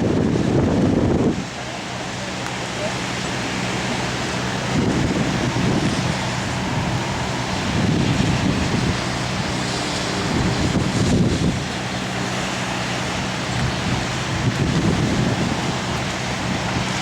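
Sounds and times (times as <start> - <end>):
wind rushing over microphone: 0.0 - 2.3, 3.0 - 17.0
vehicle engine hum: 0.0 - 17.0.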